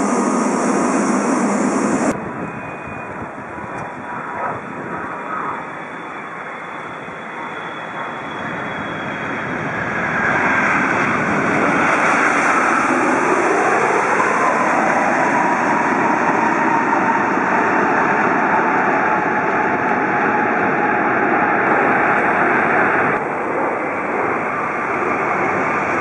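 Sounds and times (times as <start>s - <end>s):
jet engine whine: 0.0s - 26.0s
jet engines roaring: 0.0s - 26.0s.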